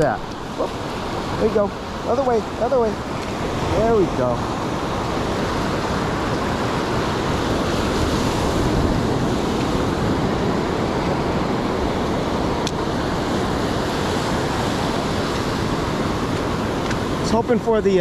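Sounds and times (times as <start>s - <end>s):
ocean surf breaking on sand: 0.0s - 18.0s.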